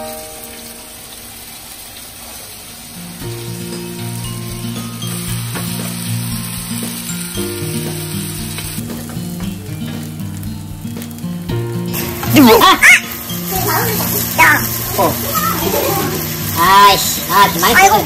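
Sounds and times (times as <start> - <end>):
food sizzling in a pan: 0.0 - 18.0
background music: 3.2 - 18.0.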